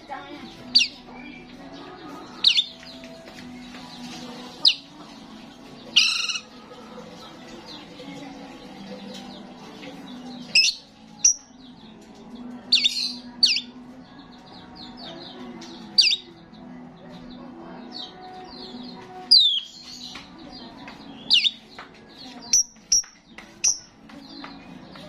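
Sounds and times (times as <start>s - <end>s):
bird chatter: 0.0s - 16.4s, 18.0s - 25.0s.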